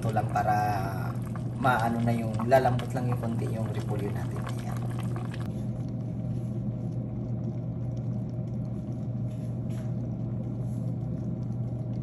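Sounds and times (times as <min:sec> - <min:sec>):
covered pot of soup boiling: 0:00.0 - 0:12.0.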